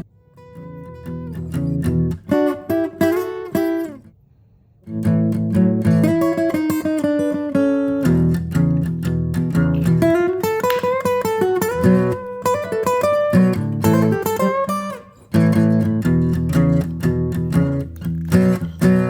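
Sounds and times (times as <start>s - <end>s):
acoustic guitar music: 0.0s - 4.2s, 4.8s - 19.0s.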